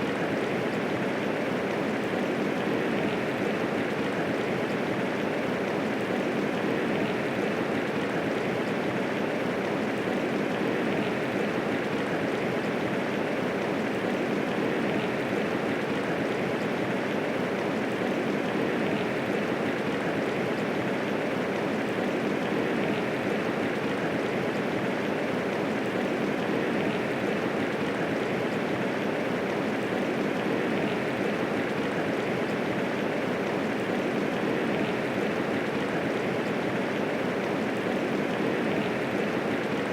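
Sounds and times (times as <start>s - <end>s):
medium rainfall: 0.0s - 39.9s.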